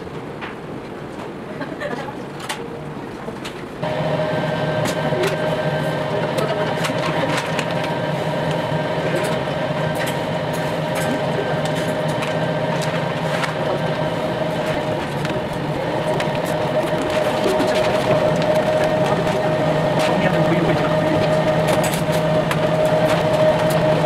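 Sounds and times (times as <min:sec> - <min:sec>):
kitchen machine hum: 0:01.8 - 0:24.0.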